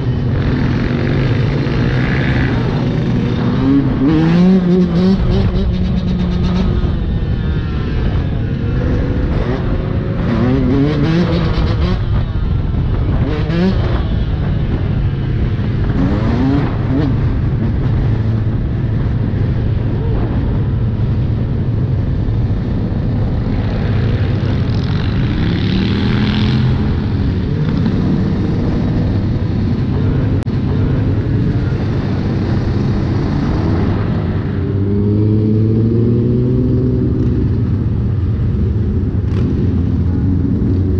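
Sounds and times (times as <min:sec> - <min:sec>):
other motorcycles running: 0:00.0 - 0:40.9.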